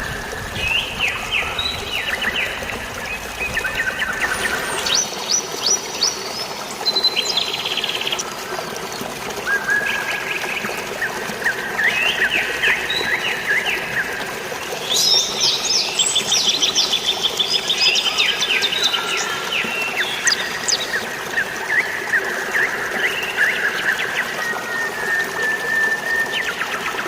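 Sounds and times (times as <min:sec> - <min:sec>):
flowing water: 0:00.0 - 0:27.0
rain: 0:00.0 - 0:27.0
songbirds chirping and trilling: 0:00.1 - 0:25.4.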